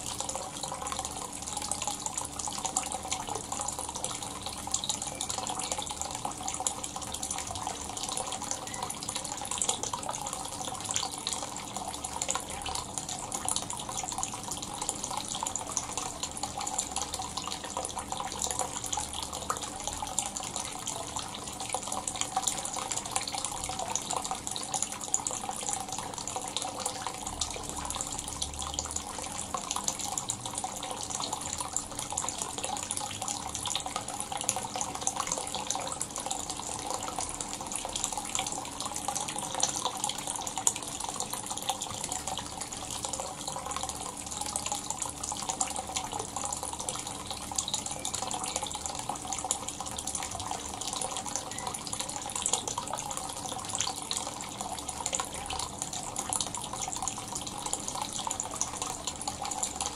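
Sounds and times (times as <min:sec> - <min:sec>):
water pouring into a tub: 0:00.0 - 0:59.9.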